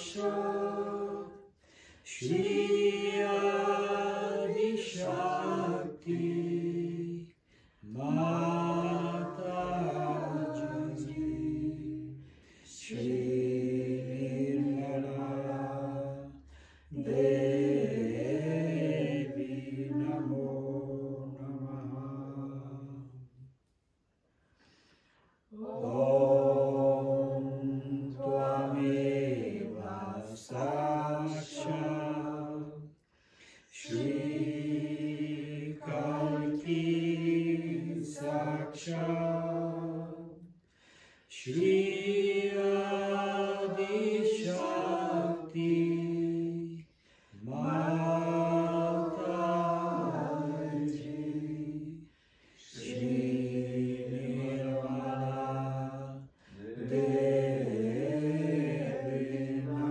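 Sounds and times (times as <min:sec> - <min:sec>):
person chanting: 0:00.0 - 0:23.5, 0:25.5 - 0:33.0, 0:33.6 - 0:40.4, 0:41.3 - 0:59.9.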